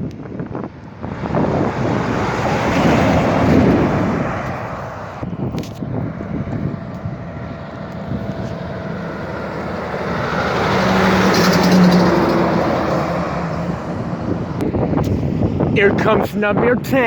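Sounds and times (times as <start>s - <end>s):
wind on microphone: 0.0s - 17.0s
vehicle passing by: 1.0s - 15.5s.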